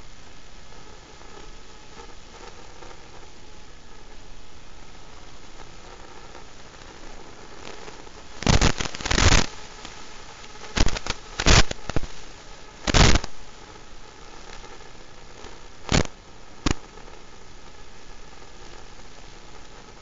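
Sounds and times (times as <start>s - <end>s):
static hiss: 0.0s - 20.0s
sharp crackling bursts: 0.3s - 20.0s.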